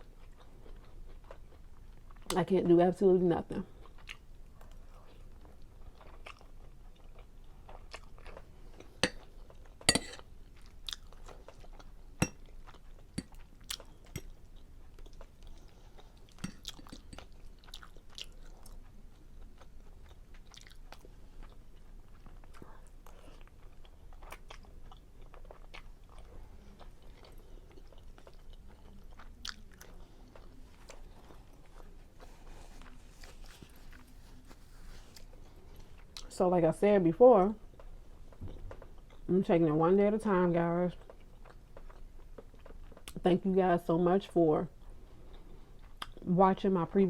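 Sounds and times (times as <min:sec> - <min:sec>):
chewing and mouth sounds: 0:00.0 - 0:02.4, 0:03.7 - 0:36.3, 0:40.9 - 0:43.3, 0:44.8 - 0:46.3.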